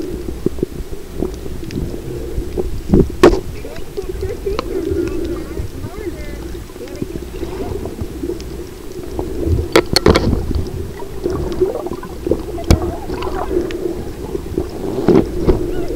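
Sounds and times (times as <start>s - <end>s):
muffled underwater noise: 0.0s - 15.9s
water bubbling and gurgling: 0.0s - 15.9s
sharp underwater clicks: 2.4s - 15.6s.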